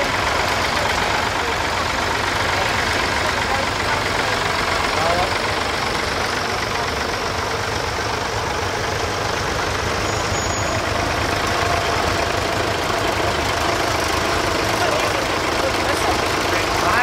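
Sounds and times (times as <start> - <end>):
tractor engines idling: 0.0 - 17.0.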